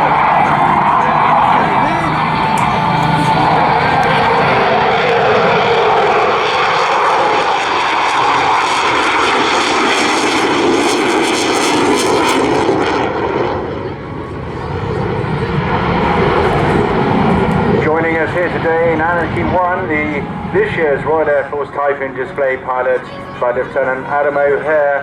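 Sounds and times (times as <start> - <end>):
jet engines flypast: 0.0 - 25.0.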